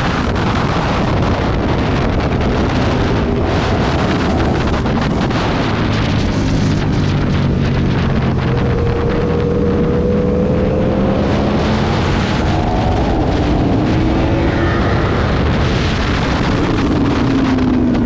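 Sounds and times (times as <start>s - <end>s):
motorcycle engine at speed: 0.0s - 18.0s
wind rush on microphone: 0.0s - 18.0s.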